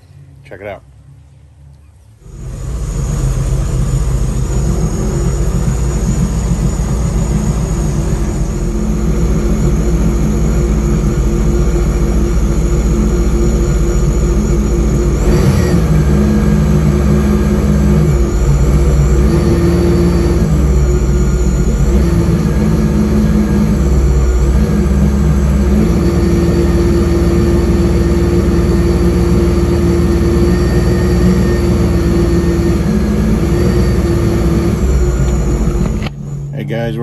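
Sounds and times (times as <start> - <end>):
jet boat engine running: 0.0 - 37.0.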